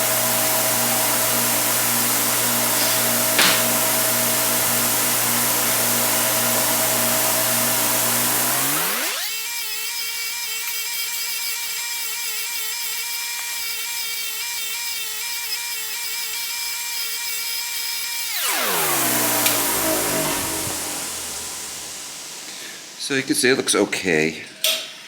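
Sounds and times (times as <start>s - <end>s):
rotary tool high-pitched whine: 0.0s - 23.7s.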